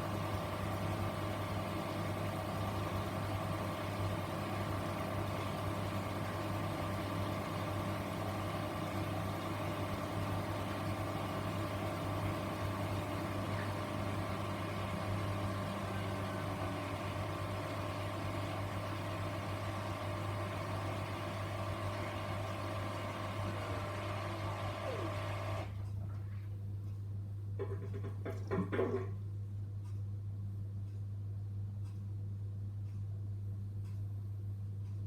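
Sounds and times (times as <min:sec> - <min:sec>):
washing machine running: 0:00.0 - 0:29.2.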